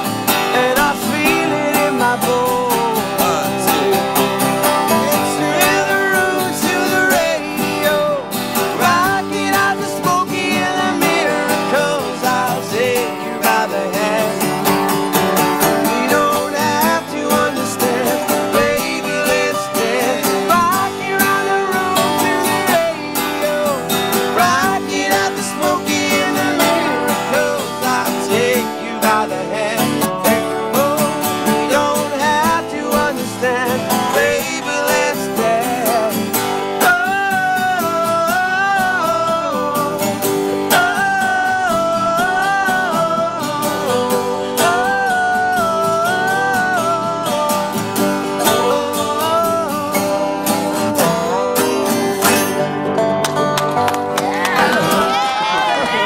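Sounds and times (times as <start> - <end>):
slide guitar notes gliding: 0.0 - 56.0
strummed acoustic guitars: 0.0 - 56.0.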